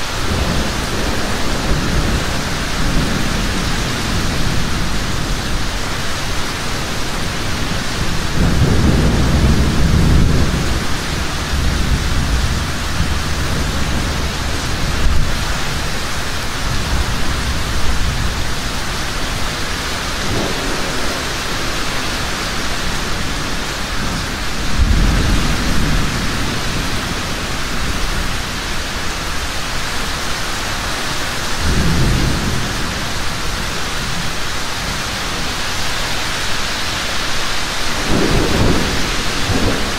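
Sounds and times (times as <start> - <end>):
thunder rolling: 0.0 - 29.6, 31.5 - 35.5, 37.6 - 39.9
heavy rain falling: 0.0 - 39.9.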